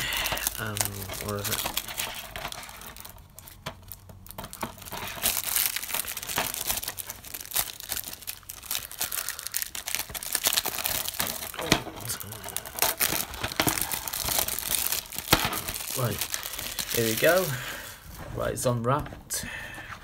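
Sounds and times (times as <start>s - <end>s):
plastic wrap crinkling and tearing: 0.0s - 18.2s.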